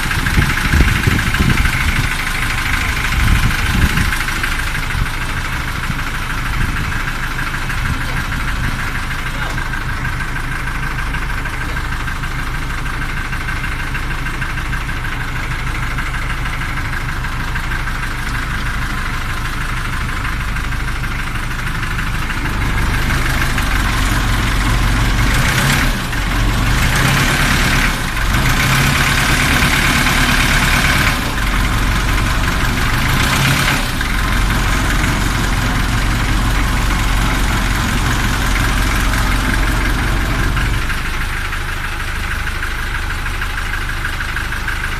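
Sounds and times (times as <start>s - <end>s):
ferry engine running: 0.0s - 44.9s.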